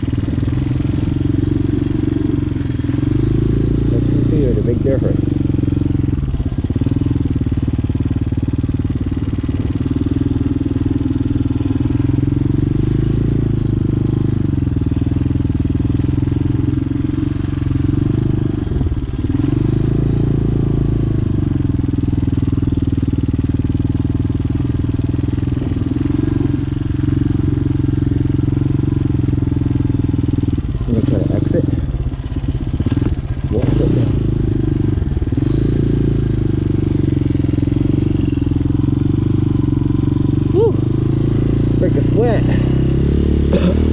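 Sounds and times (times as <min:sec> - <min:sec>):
motorcycle engine at low revs: 0:00.0 - 0:43.9.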